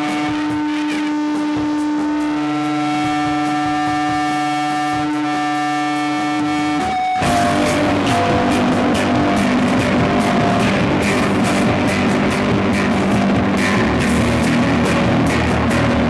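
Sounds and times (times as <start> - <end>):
bass guitar: 0.0 - 16.0
distorted electric guitar: 0.0 - 16.0
drum and cymbal hits: 0.0 - 16.0.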